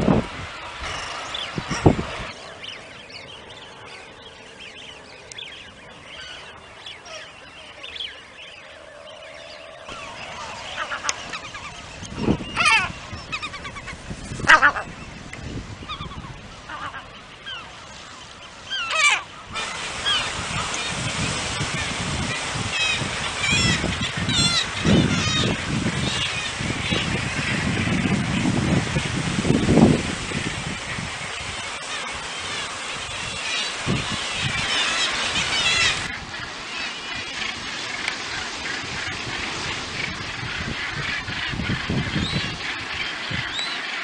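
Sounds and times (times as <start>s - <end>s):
low steady hiss: 0.0s - 44.0s
seabirds calling: 0.0s - 44.0s.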